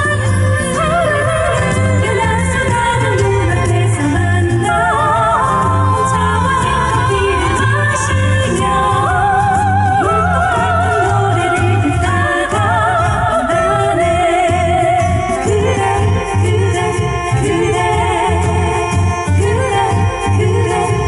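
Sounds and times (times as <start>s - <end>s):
singers singing in harmony: 0.0s - 21.0s.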